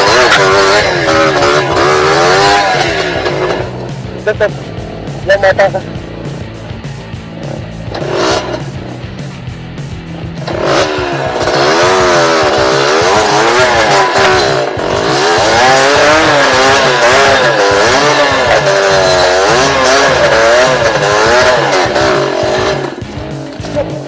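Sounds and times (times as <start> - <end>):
two-stroke motorbike engine revving: 0.0 - 24.0.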